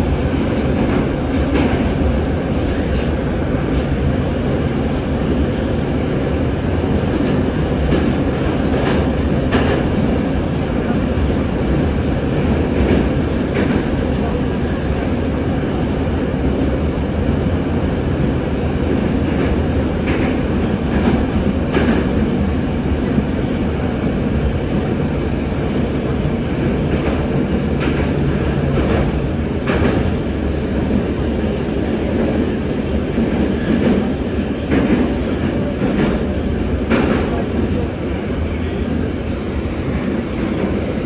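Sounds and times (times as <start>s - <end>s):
metro train rumble: 0.0s - 41.0s.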